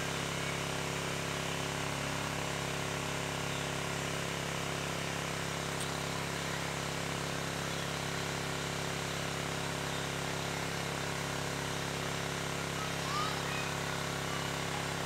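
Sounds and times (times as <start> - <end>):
engine droning hum: 0.0 - 15.0.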